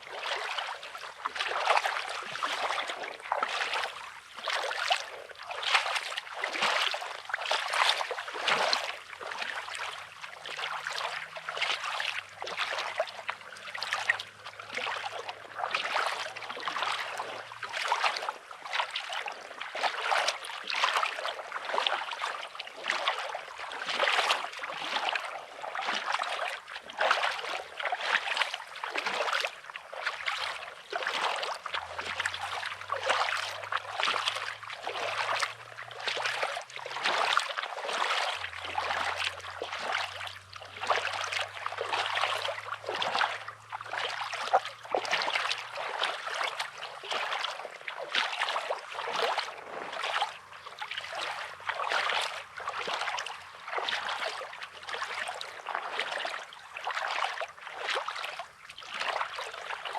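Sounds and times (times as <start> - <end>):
small waves washing ashore: 0.0 - 59.9.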